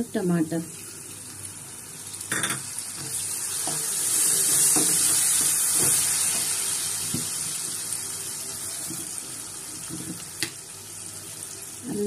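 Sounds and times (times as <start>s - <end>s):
tomatoes sizzling in oil: 0.0s - 12.0s.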